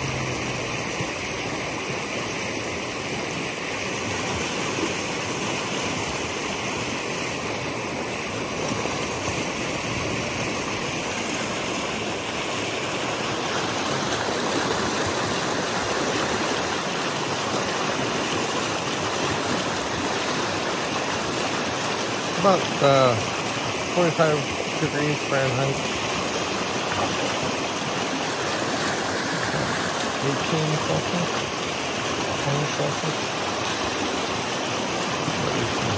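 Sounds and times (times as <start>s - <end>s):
creek rushing over rocks: 0.0s - 35.9s.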